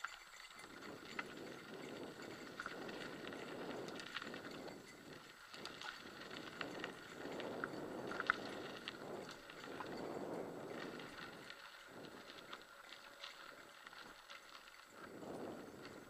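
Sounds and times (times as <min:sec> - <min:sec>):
bicycle tyres rumbling on dirt: 0:00.0 - 0:16.0
bike clicks and rattles: 0:00.0 - 0:16.0.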